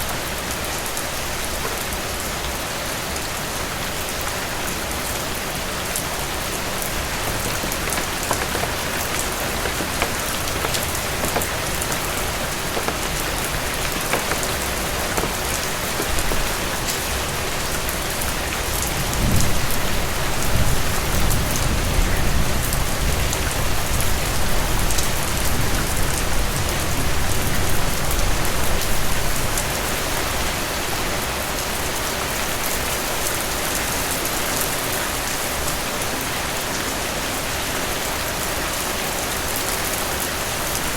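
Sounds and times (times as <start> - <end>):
heavy rain on roof: 0.0 - 40.9.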